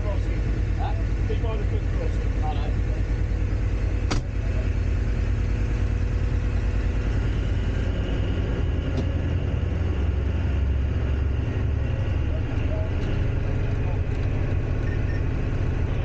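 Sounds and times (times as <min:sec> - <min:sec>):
diesel engine droning: 0:00.0 - 0:16.0
train running on track: 0:00.0 - 0:16.0.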